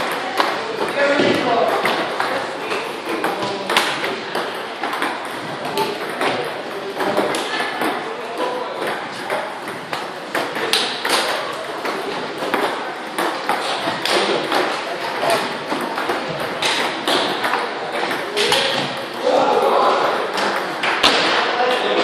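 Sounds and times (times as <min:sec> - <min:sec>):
table tennis balls clicking: 0:00.0 - 0:19.0.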